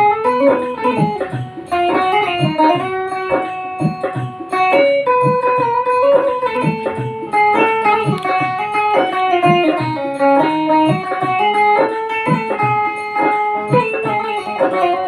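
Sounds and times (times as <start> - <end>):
low regular beat: 0.0 - 15.0
plucked metal strings melody: 0.0 - 15.0.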